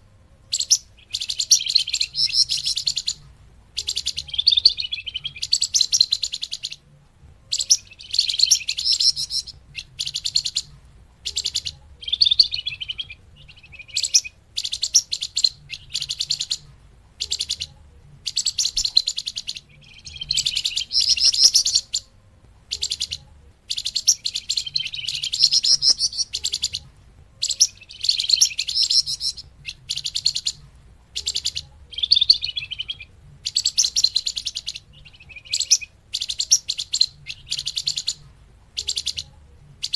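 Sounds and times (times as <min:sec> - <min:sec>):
songbird trilling: 0:00.5 - 0:03.2, 0:03.8 - 0:06.8, 0:07.4 - 0:38.2, 0:38.8 - 0:39.9.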